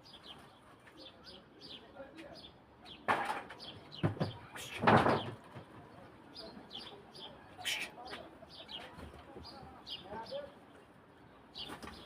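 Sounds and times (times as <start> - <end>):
small birds chirping: 0.0 - 5.4, 6.0 - 12.0.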